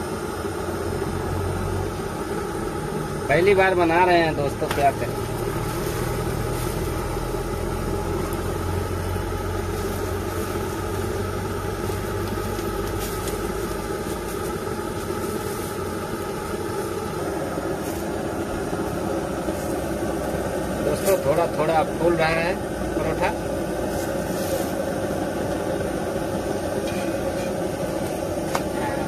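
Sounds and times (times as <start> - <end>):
idling motor hum: 0.0 - 29.0.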